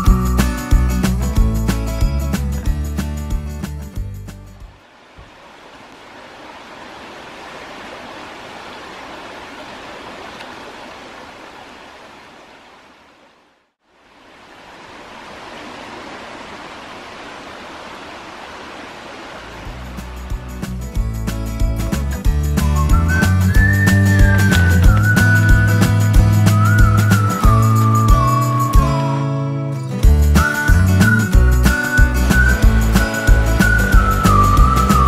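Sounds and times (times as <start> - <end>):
running water rushing: 4.6 - 29.3, 30.0 - 35.0.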